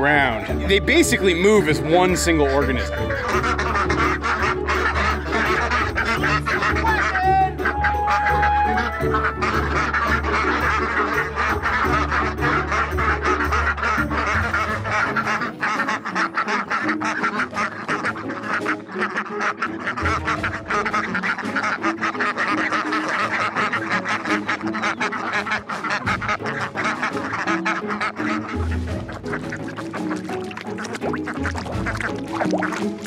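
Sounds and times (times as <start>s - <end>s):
background music: 0.0s - 33.0s
ducks quacking: 0.0s - 33.0s.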